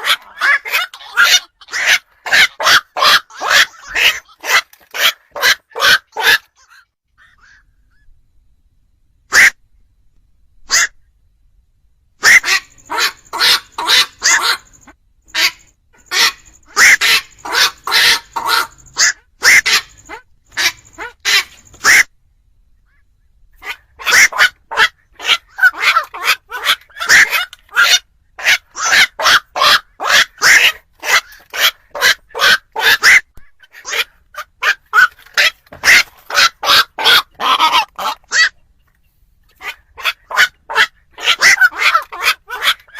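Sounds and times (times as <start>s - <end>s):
heron harsh croaks: 0.0s - 7.7s, 10.7s - 11.0s, 12.2s - 22.1s, 23.6s - 38.6s, 39.5s - 42.9s.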